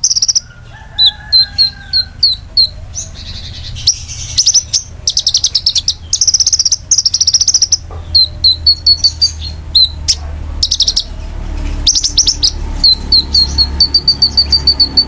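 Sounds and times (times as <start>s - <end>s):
songbird singing high chirps: 0.0s - 15.0s
steady low hum: 0.0s - 15.0s.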